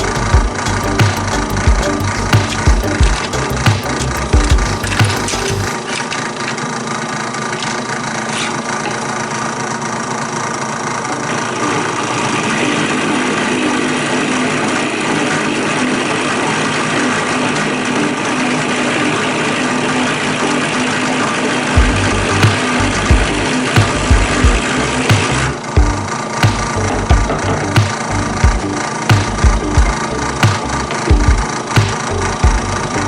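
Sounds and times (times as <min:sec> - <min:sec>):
drill press running: 0:00.0 - 0:33.0.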